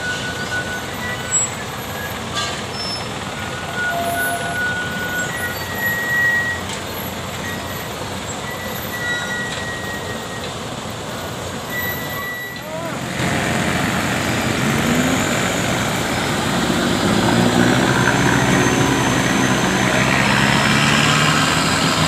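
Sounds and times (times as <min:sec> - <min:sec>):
truck engines rumbling: 0:00.0 - 0:22.0.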